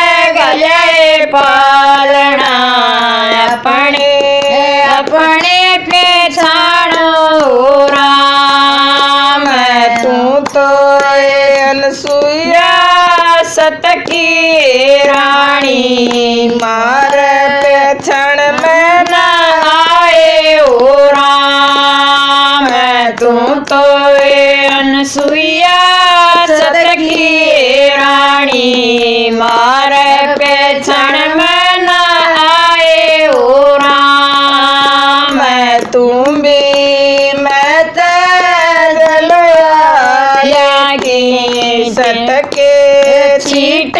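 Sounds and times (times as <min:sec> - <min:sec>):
women singing unaccompanied hymn: 0:00.0 - 0:43.9.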